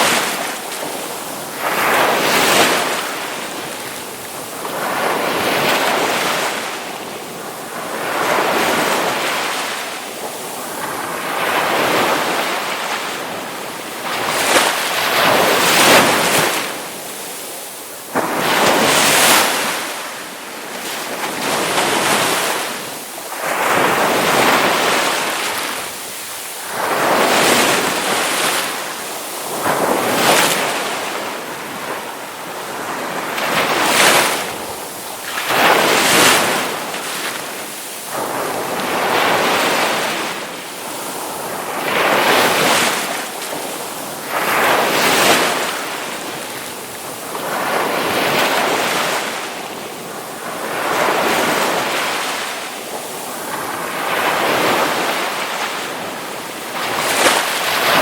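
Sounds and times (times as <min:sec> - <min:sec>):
ocean waves crashing: 0:00.0 - 0:58.0.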